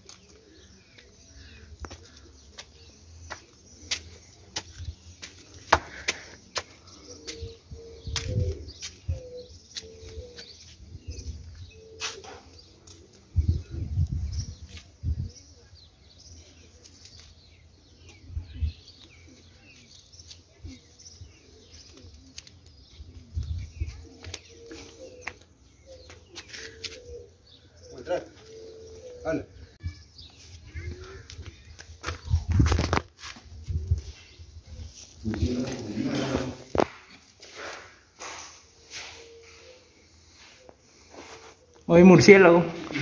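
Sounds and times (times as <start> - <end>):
footsteps on concrete and sand: 0.0 - 13.4, 14.5 - 15.1, 16.5 - 29.4, 30.0 - 43.0
pigeons cooing: 0.0 - 33.0, 33.6 - 41.8.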